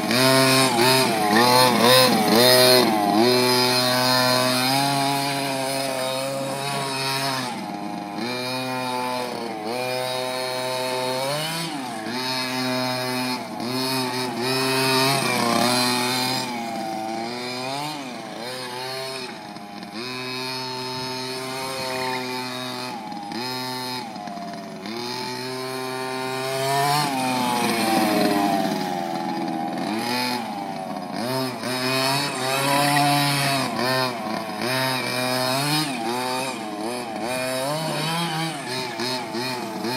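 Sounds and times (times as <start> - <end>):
small two-stroke engine revving: 0.0 - 39.9.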